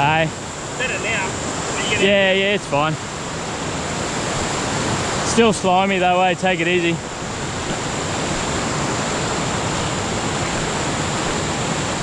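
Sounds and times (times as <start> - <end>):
floodwater rushing over rocks: 0.0 - 12.0.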